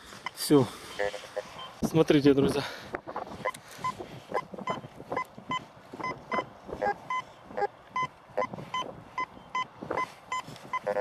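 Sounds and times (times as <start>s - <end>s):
metal detector beeps: 0.2s - 1.8s, 3.4s - 11.0s.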